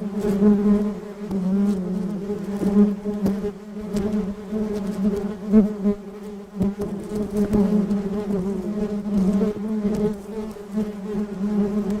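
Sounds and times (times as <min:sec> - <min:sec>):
bee buzzing: 0:00.0 - 0:12.0.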